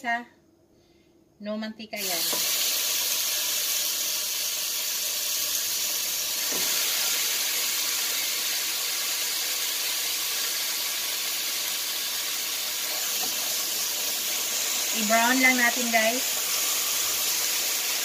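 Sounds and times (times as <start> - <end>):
pork chops sizzling in a pan: 2.0 - 18.0.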